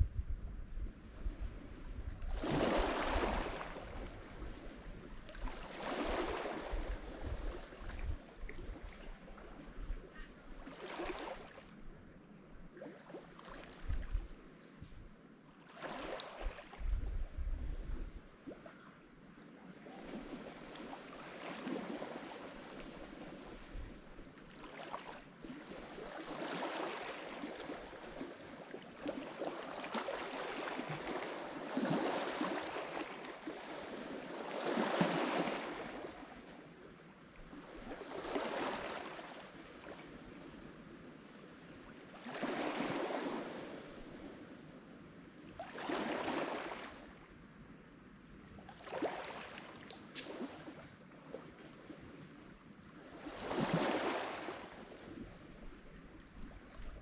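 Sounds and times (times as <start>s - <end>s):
waves breaking on shore: 1.0s - 11.9s, 12.7s - 14.7s, 15.5s - 17.0s, 19.6s - 44.9s, 45.5s - 47.3s, 48.7s - 57.0s.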